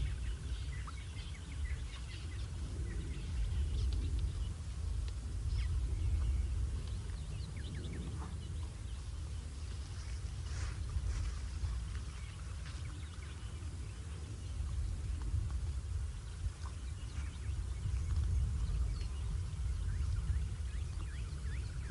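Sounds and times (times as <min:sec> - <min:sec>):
birds chirping: 0:00.0 - 0:21.9
steady low rumble: 0:00.0 - 0:21.9.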